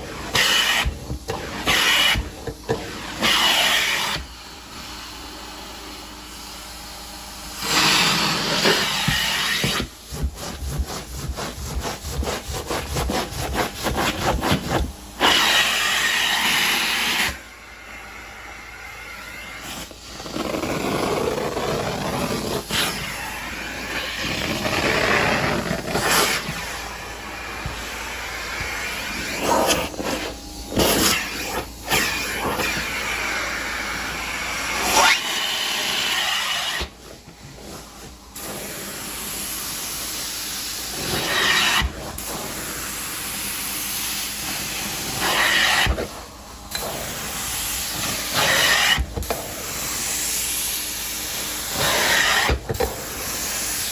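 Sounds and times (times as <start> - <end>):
cleaning wand spray and suction: 0.0 - 5.0, 7.6 - 53.9.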